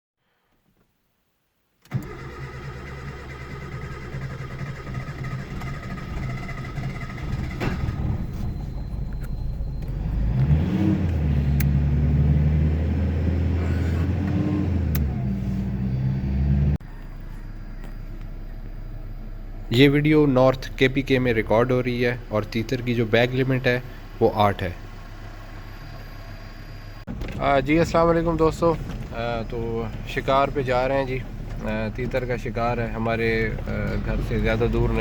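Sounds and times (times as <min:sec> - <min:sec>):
vehicle engine running: 0:01.9 - 0:35.0.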